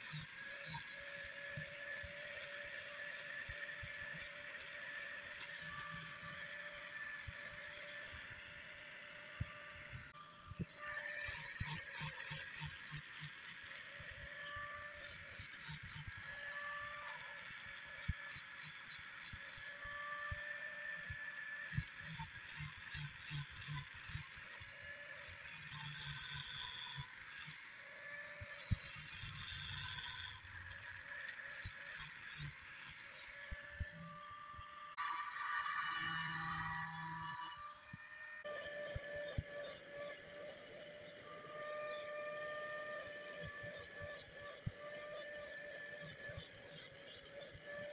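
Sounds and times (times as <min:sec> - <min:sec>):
angle grinder grinding steel: 0:00.0 - 0:47.9.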